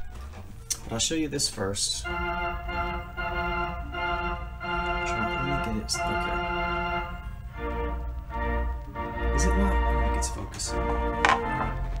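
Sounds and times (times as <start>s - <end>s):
organ chords: 1.7s - 12.0s.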